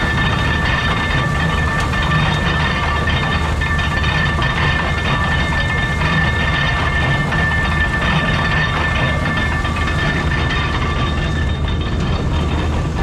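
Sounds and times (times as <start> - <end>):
baler mechanical clatter: 0.0 - 13.0
high-pitched machine whine: 0.0 - 13.0.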